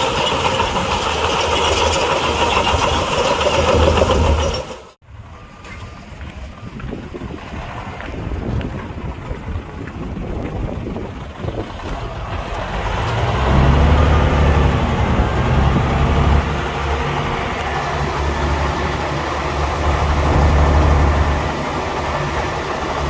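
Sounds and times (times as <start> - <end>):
diesel engine working under load: 0.0 - 23.0.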